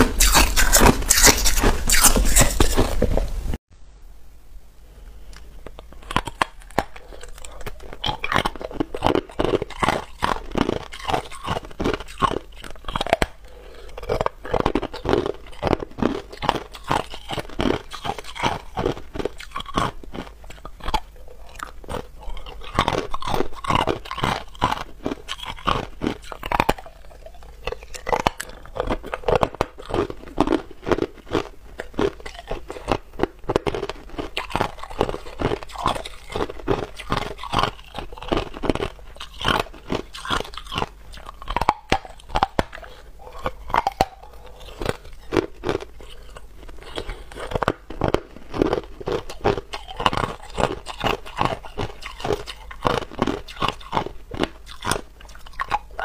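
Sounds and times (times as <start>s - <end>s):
ice crunching while chewed: 0.0s - 3.2s, 5.4s - 56.0s.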